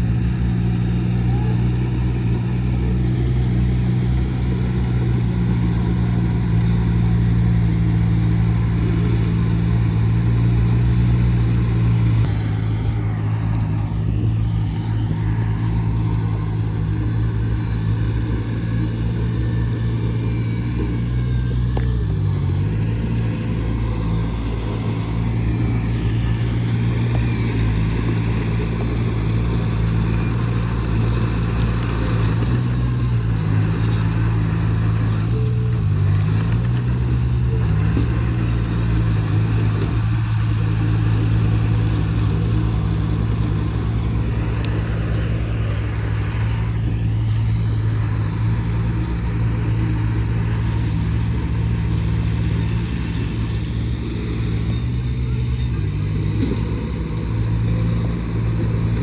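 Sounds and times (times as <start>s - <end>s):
earthmoving machine diesel engine: 0.0s - 59.0s.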